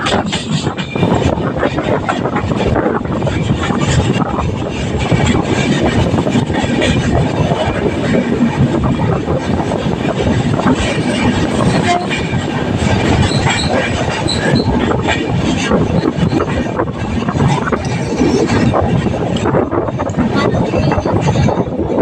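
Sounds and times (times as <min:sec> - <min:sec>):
electric train rumbling: 0:00.0 - 0:22.0
train clacks: 0:00.0 - 0:22.0.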